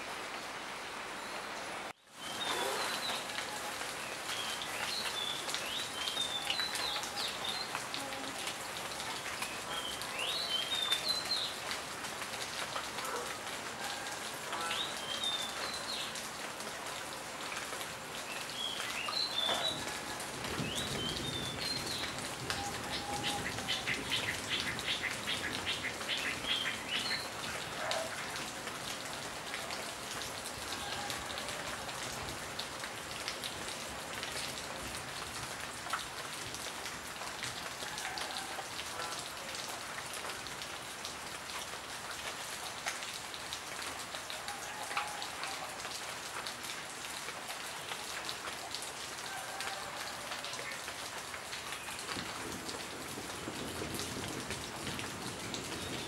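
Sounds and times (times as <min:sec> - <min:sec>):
rain falling on foliage: 0:00.0 - 0:56.0.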